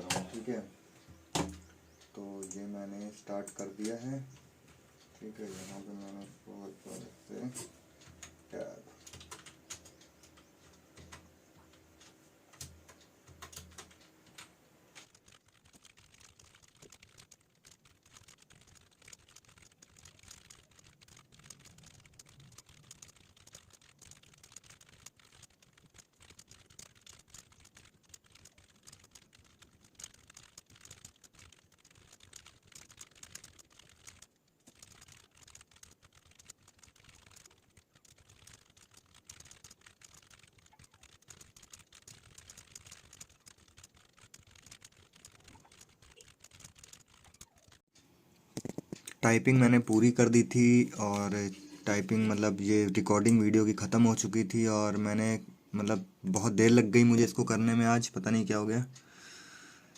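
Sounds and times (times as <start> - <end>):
fast typing on keyboard: 0.0 - 4.4, 5.0 - 47.9, 48.6 - 59.9.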